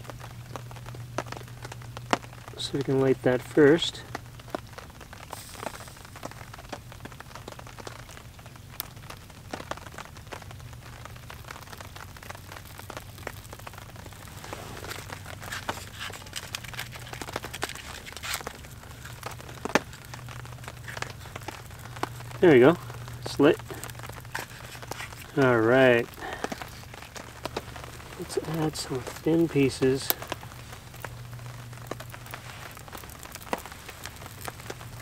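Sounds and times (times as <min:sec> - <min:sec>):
fire snapping: 0:00.0 - 0:35.0
small fire crackling: 0:00.0 - 0:35.0.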